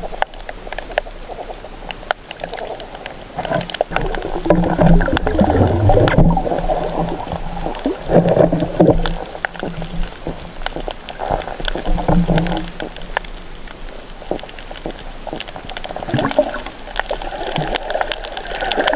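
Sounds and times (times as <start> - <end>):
sharp clicks and crackles: 0.0 - 18.9
underwater rumbling wash: 0.0 - 18.9.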